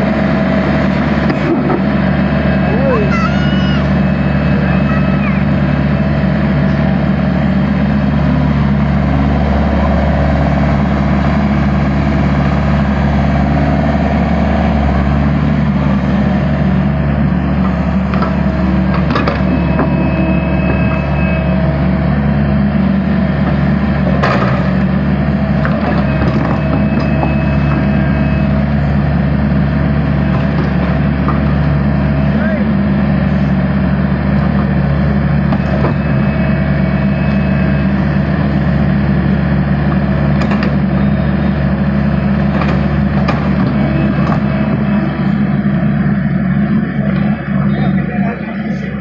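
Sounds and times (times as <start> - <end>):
diesel engine running: 0.0 - 49.0.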